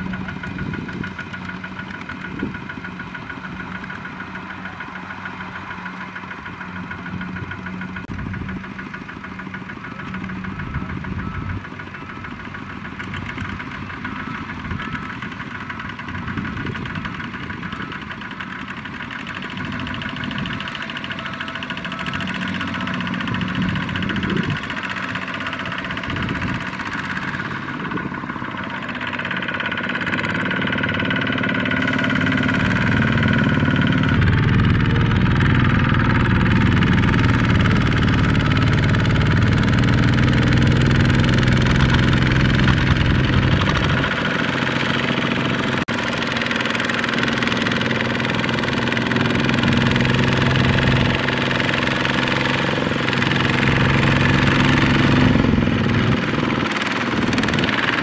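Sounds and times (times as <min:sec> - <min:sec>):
diesel tractor engines running: 0:00.0 - 0:58.0.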